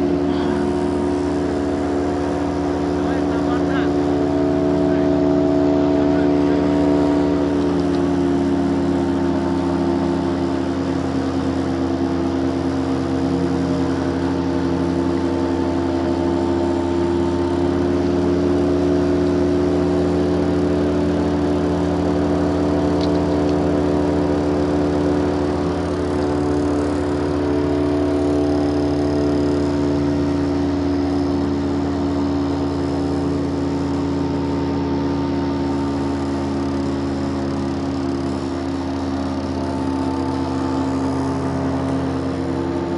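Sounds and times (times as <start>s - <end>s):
motorboat engine droning: 0.0s - 42.9s.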